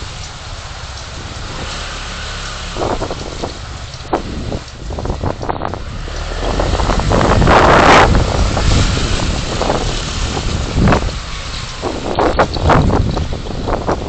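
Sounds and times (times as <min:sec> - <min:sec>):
road and tyre rumble: 0:00.0 - 0:14.0
rush of passing noise: 0:00.0 - 0:14.0.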